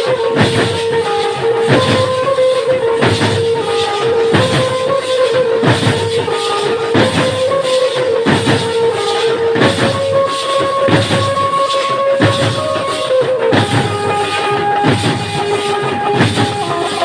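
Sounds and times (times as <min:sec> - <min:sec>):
loud music with steady drum beat: 0:00.0 - 0:17.0.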